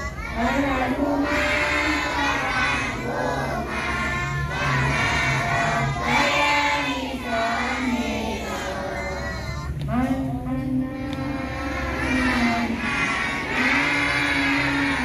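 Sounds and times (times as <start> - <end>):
children singing together: 0.0 - 15.0
steady low hum: 0.0 - 15.0.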